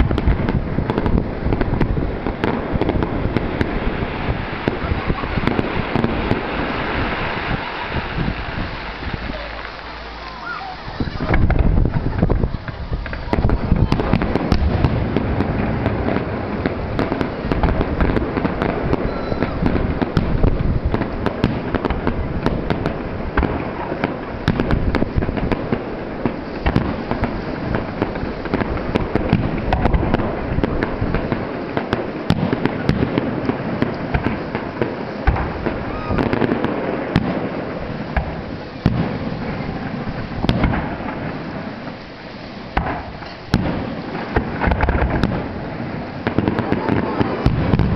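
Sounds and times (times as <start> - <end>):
fireworks bursts and crackling: 0.0 - 47.9.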